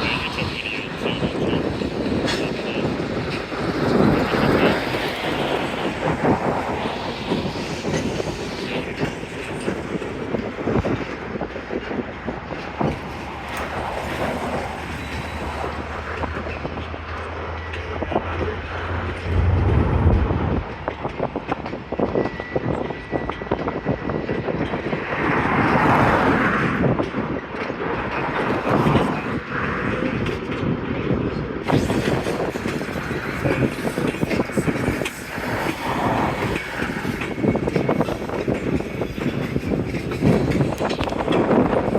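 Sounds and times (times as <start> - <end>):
freight train cars rolling: 0.0 - 41.9.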